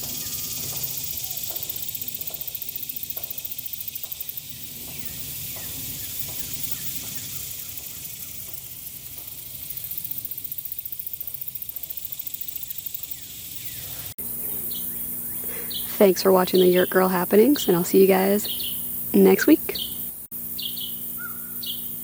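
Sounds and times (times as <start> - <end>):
insects hissing: 0.0 - 22.0.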